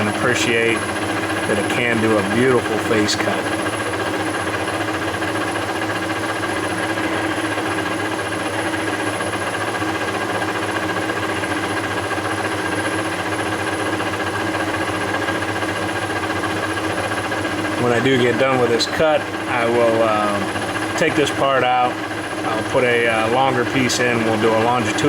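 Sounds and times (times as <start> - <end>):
lathe machine drone: 0.0 - 25.0.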